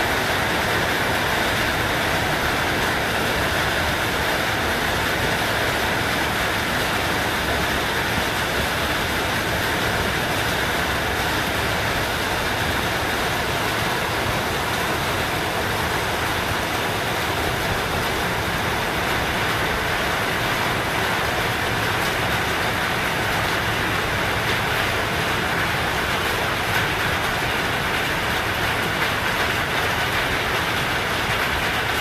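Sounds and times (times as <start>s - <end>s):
steady rain on wet ground: 0.0s - 32.0s.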